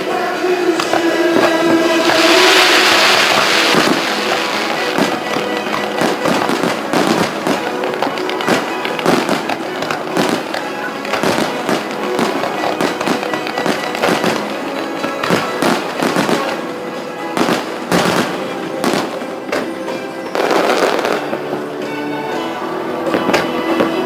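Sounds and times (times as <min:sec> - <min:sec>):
fireworks bursting and crackling: 0:00.0 - 0:22.1
music playing: 0:00.0 - 0:24.0.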